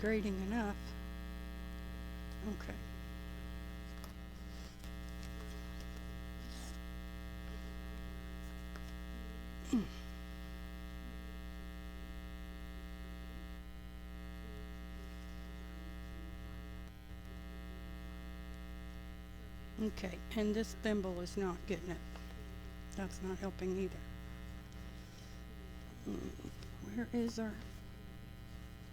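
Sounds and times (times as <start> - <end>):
buzzy mains hum: 0.0 - 28.9.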